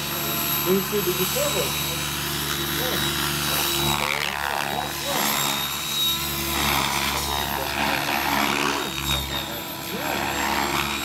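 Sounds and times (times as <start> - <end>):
model helicopter rotor hum: 0.0 - 11.0
thin high whine: 0.0 - 11.0.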